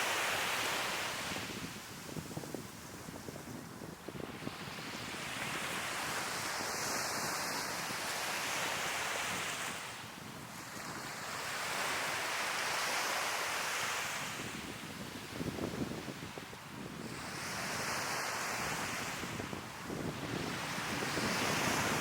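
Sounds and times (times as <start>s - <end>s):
sea waves breaking on beach: 0.0s - 3.1s, 4.3s - 22.0s
wind rumble on microphone: 0.4s - 12.3s, 14.0s - 22.0s.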